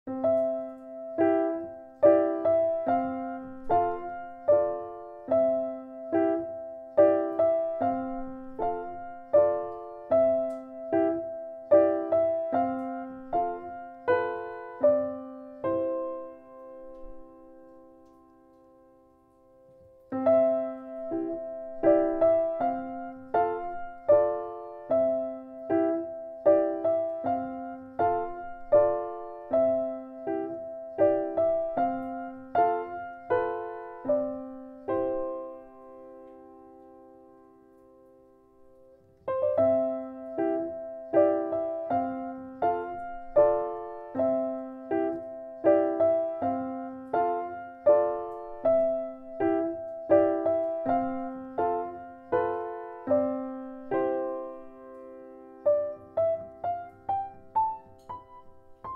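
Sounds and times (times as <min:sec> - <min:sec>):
repeating piano pattern: 0:00.1 - 0:58.9.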